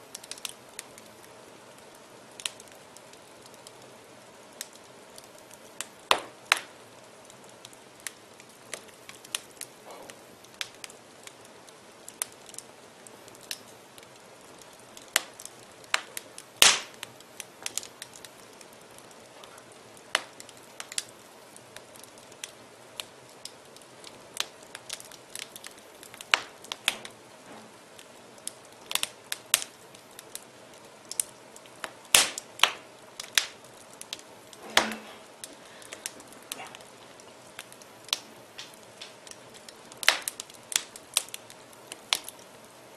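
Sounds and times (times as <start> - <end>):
faint steady hiss: 0.0 - 42.9
wood fire crackling: 0.0 - 42.9.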